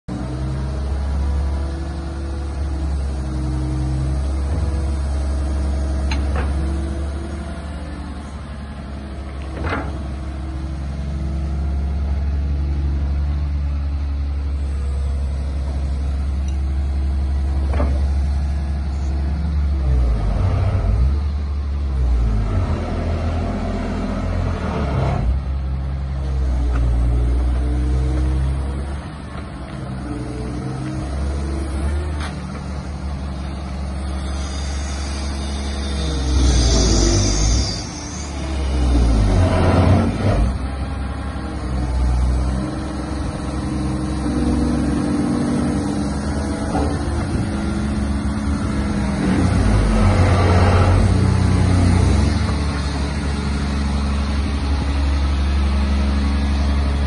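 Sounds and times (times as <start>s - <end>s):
excavator engine under load: 0.1s - 57.0s.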